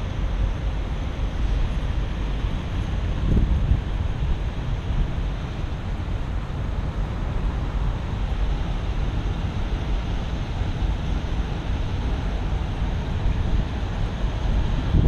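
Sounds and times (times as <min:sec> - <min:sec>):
wind buffeting microphone: 0:00.0 - 0:07.8, 0:09.2 - 0:15.0.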